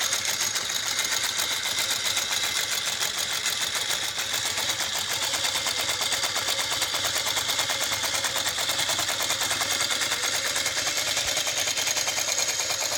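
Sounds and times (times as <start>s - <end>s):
industrial sewing machine clattering: 0.0s - 12.9s.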